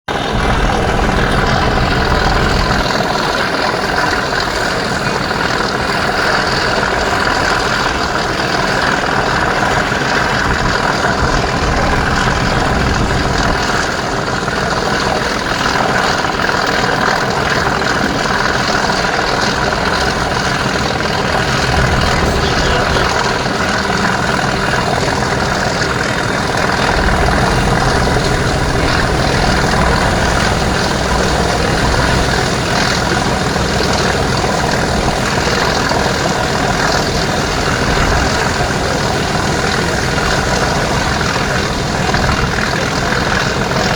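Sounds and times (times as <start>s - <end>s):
diesel locomotive engine running: 0.0s - 43.9s.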